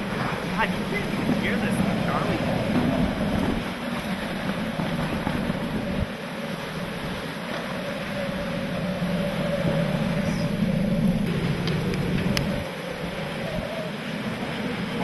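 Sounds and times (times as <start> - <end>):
low vehicle hum: 0.0 - 15.0
rain beating on a vehicle: 0.0 - 15.0
strong wind: 0.0 - 15.0.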